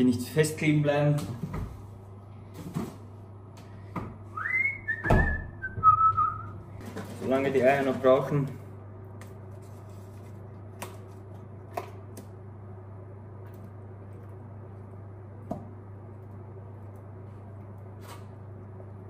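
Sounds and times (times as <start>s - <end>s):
low kitchen hum: 0.0s - 19.0s.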